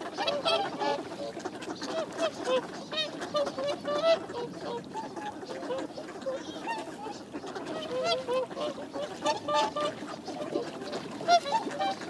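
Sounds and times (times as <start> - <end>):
ducks quacking: 0.0 - 12.0
swans honking: 0.0 - 12.0.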